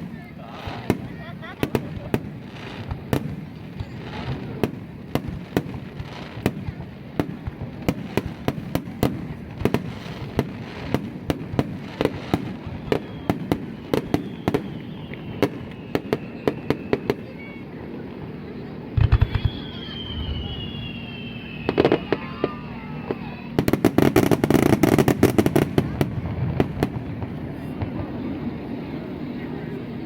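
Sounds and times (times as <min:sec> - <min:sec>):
fireworks bursting with sharp bangs: 0:00.0 - 0:30.0.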